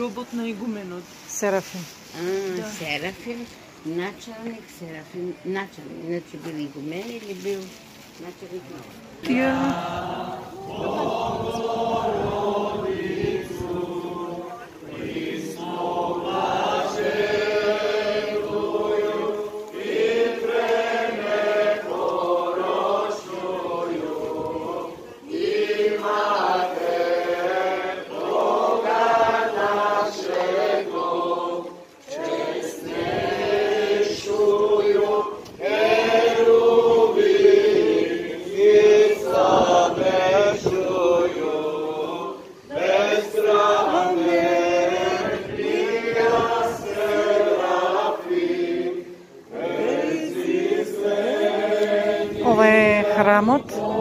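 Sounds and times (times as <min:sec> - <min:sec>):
choir singing a hymn: 0:09.2 - 0:54.0.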